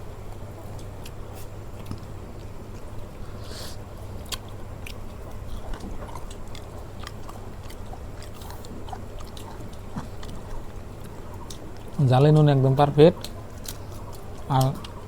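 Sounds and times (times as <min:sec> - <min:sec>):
steady low hum: 0:00.0 - 0:15.0
person chewing food: 0:00.3 - 0:15.0.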